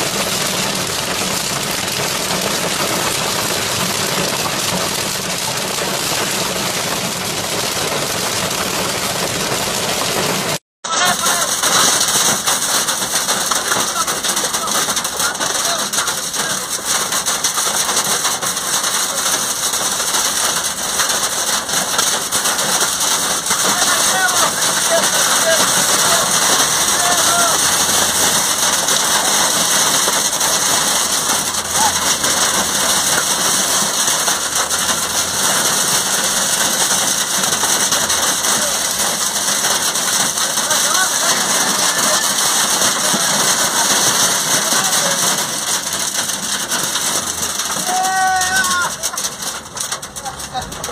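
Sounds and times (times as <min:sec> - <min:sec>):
hail and rain on car roof: 0:00.0 - 0:50.9.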